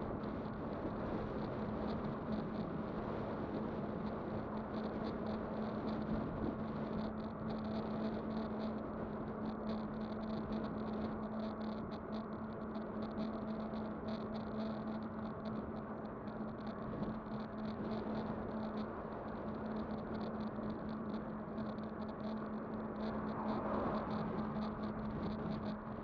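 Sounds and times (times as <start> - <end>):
electric bike motor whine: 0.0 - 26.0.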